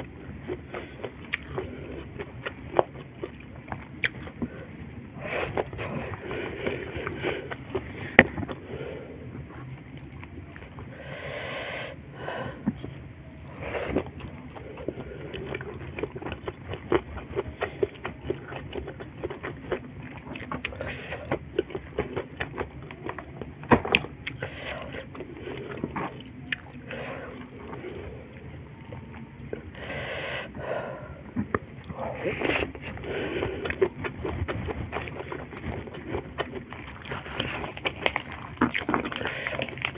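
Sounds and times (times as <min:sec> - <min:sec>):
close chewing: 0:00.0 - 0:11.4, 0:12.6 - 0:30.6, 0:31.2 - 0:39.9.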